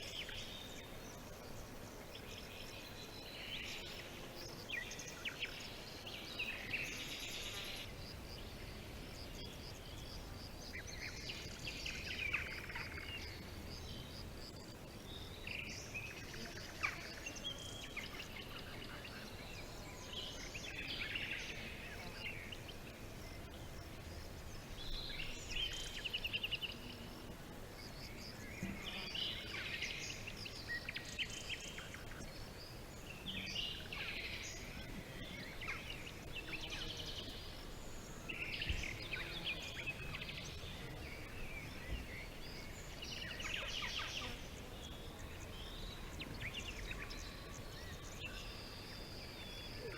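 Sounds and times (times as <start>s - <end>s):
outdoor background hiss: 0.0s - 49.9s
songbirds chirping and singing: 0.0s - 49.9s.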